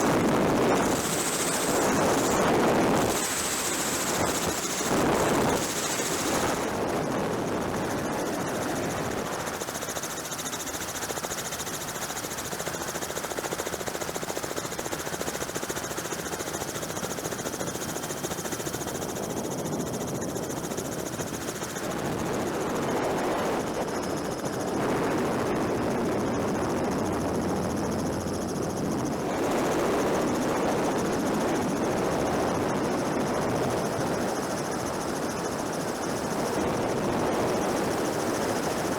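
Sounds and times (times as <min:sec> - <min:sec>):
helicopter in flight: 0:00.0 - 0:38.9.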